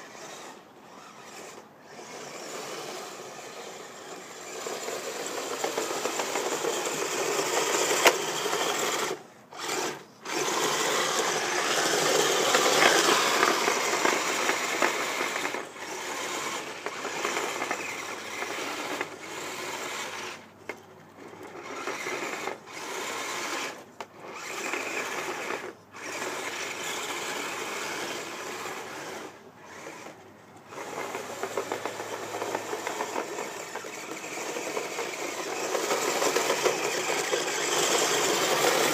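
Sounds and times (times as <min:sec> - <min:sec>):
electric motors and gearboxes whirring: 0:00.0 - 0:38.9.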